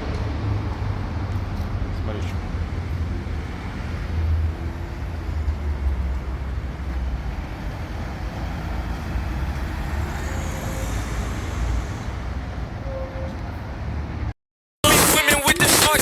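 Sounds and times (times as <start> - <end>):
vehicle driving on road: 0.0 - 14.4.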